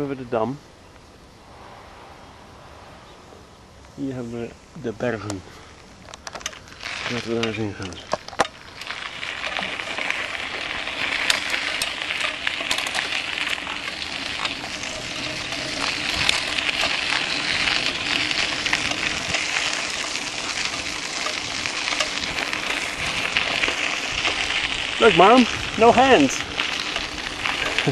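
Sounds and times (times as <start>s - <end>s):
bike tyres crunching on gravel: 4.8s - 27.9s
bike rattling: 5.0s - 27.9s.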